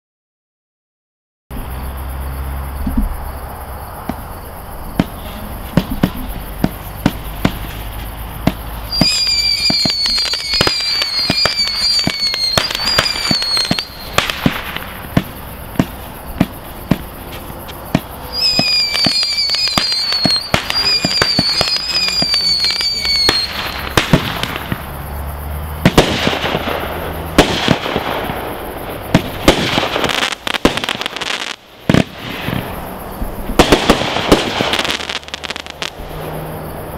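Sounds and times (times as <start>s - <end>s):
crackling firework bursts: 1.5s - 36.9s
warbling firework whistles: 1.5s - 36.9s
firework launch thumps and bangs: 2.8s - 3.2s, 4.0s - 24.9s, 25.7s - 36.2s.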